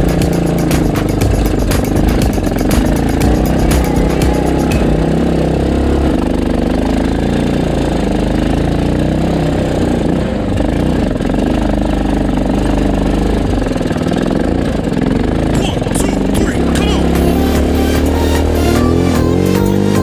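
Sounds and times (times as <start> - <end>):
small petrol engine running: 0.0 - 20.0.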